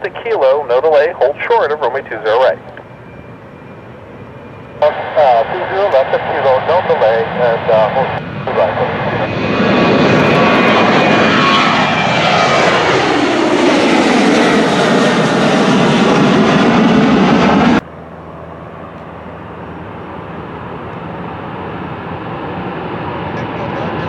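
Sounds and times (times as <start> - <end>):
airplane passing close by: 0.0 - 24.0
quieter aircraft engine: 0.0 - 24.0.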